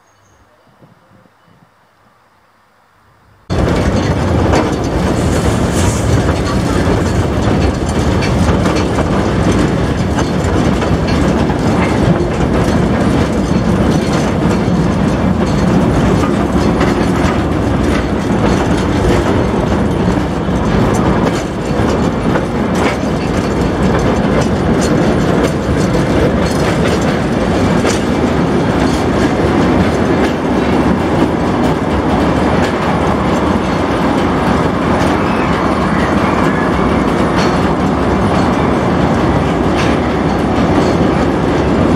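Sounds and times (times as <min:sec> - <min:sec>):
train running noise: 0:00.0 - 0:41.9
wheels clattering over track: 0:03.5 - 0:41.9.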